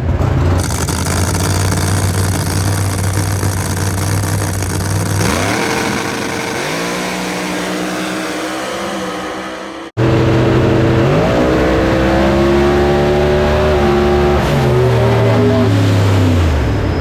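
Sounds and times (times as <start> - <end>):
race car engine at full throttle: 0.0 - 17.0.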